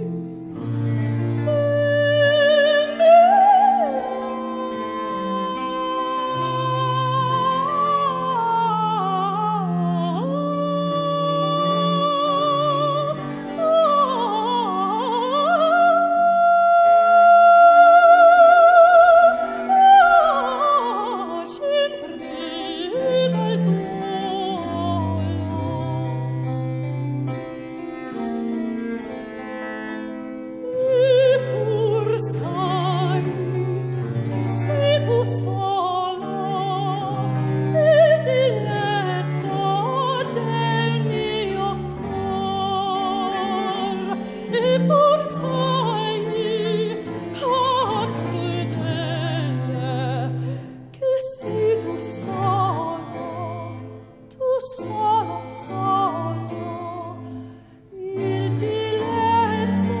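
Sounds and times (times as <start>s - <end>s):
soprano singing: 0.0s - 28.2s, 30.6s - 60.0s.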